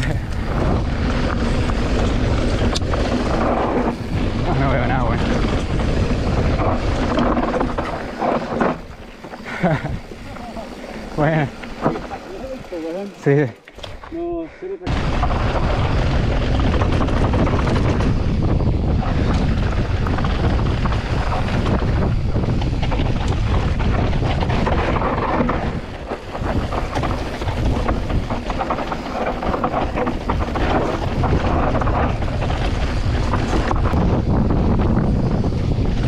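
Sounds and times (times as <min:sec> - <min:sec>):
wind rushing on microphone: 0:00.0 - 0:12.8, 0:14.0 - 0:36.0
bike rattling and knocking: 0:00.0 - 0:36.0
bike tyre noise: 0:00.0 - 0:36.0.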